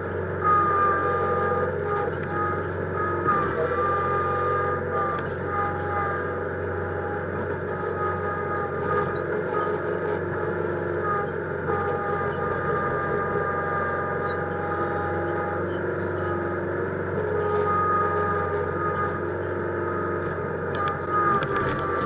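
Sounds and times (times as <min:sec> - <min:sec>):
high-pitched whine: 0:00.0 - 0:22.0
tractor diesel engine running: 0:00.0 - 0:22.0.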